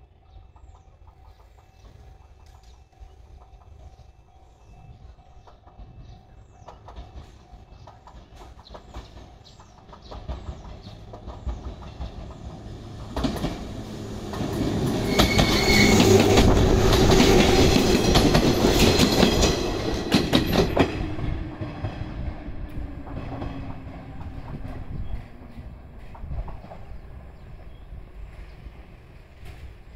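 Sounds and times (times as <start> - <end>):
electric train passing: 0.0 - 29.9
train wheels clacking over rail joints: 5.3 - 29.9.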